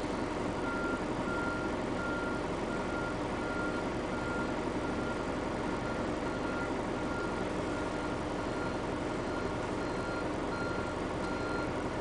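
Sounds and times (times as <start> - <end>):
diesel engines running: 0.0 - 12.0
reversing alarm beeping: 0.6 - 11.7.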